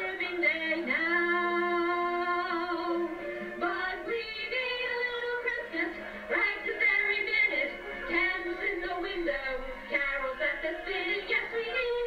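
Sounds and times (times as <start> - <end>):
women singing long notes: 0.0 - 12.0.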